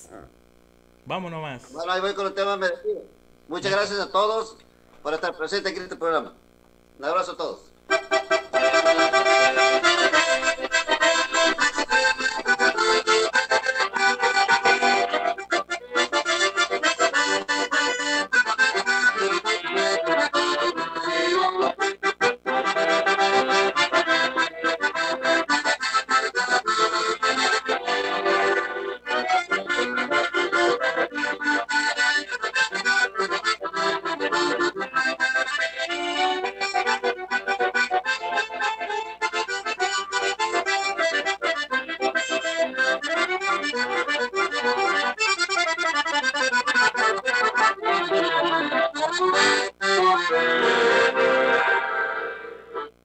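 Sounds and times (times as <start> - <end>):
accordion playing: 7.9 - 53.0.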